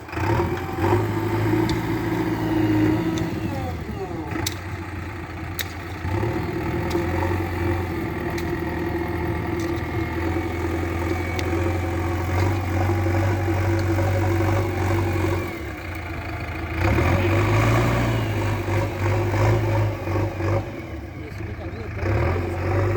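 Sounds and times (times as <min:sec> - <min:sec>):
engine-like drone: 0:00.0 - 0:22.9.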